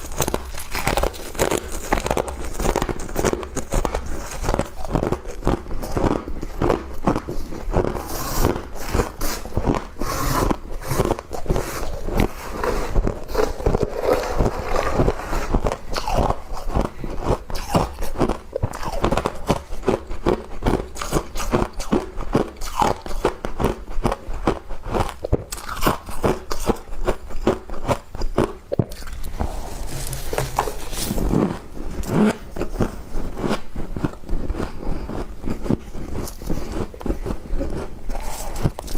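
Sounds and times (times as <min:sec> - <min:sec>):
frost being chewed crunching: 0:00.0 - 0:38.9.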